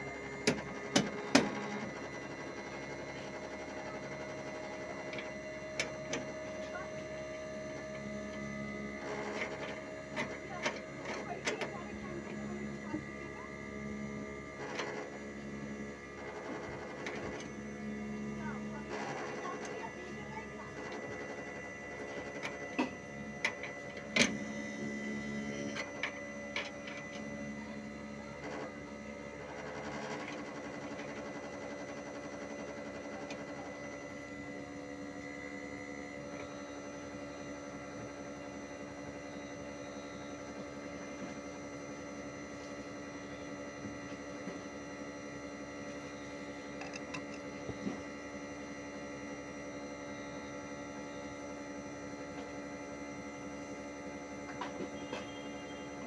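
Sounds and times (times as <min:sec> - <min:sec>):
air conditioner unit humming: 0:00.0 - 0:56.0.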